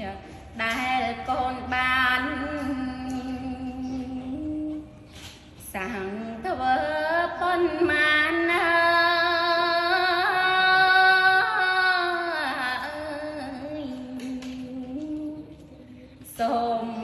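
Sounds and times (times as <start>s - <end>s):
woman chanting: 0.0s - 17.0s.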